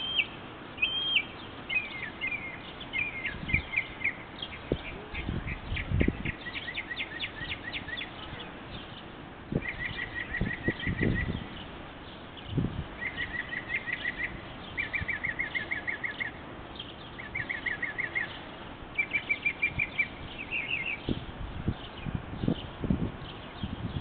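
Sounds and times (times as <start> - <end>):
mockingbird singing: 0.0 - 24.0.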